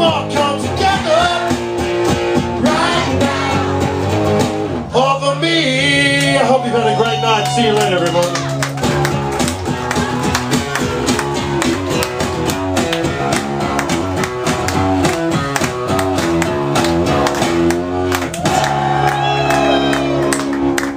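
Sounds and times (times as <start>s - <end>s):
acoustic guitar strumming: 0.0s - 18.3s.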